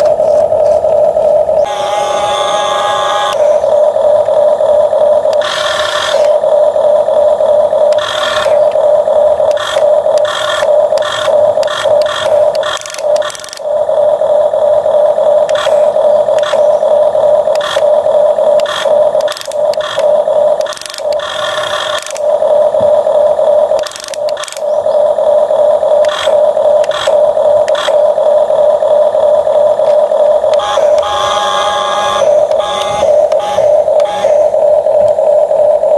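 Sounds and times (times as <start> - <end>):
toy clicking and scraping sand: 0.0 - 13.7, 15.2 - 22.4, 23.5 - 35.2
small electric motor whining: 0.0 - 35.9.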